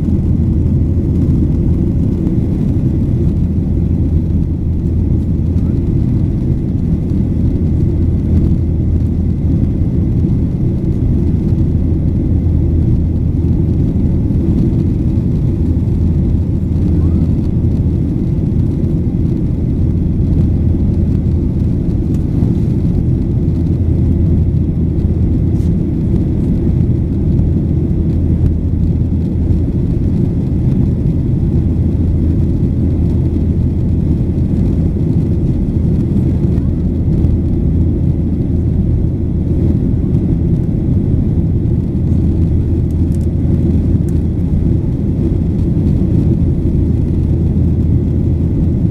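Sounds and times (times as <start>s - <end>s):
airplane engine rumble in cabin: 0.0s - 48.9s.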